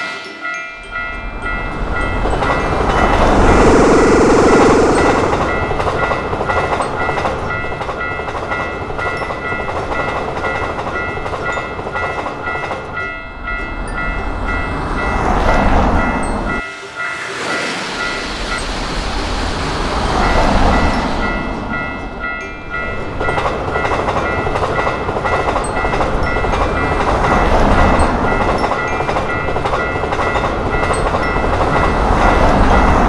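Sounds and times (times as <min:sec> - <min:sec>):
electric train running on rails: 0:00.0 - 0:33.0
railroad crossing bell ringing: 0:00.0 - 0:33.0.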